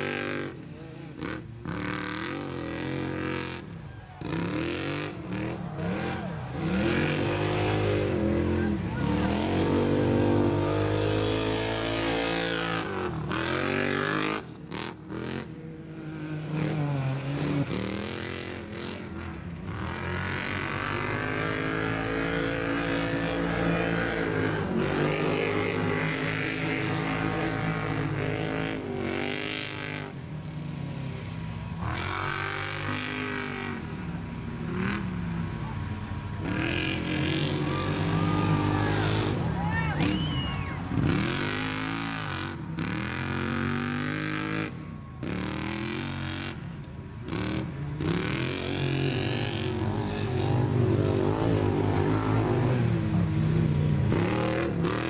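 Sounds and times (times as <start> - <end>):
engines running and revving: 0.0 - 55.0.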